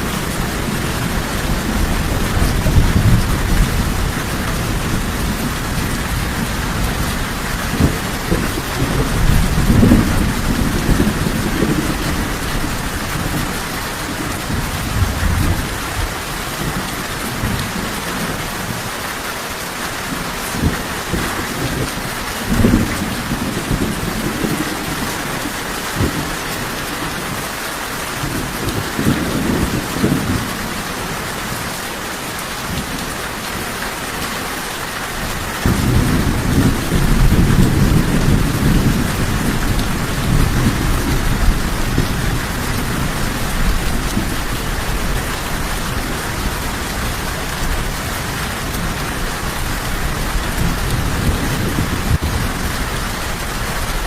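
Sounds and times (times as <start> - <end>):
thunder rumbling: 0.0 - 18.9, 20.1 - 31.8, 32.6 - 54.0
steady rain falling: 0.0 - 54.0.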